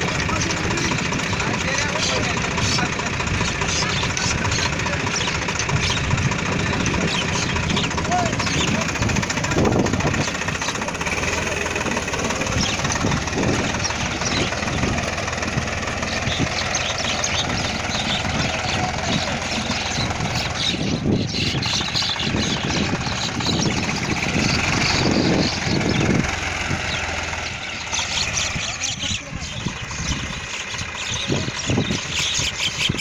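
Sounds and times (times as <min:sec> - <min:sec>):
rotary tiller churning soil: 0:00.0 - 0:33.0
tractor engine running under load: 0:00.0 - 0:33.0.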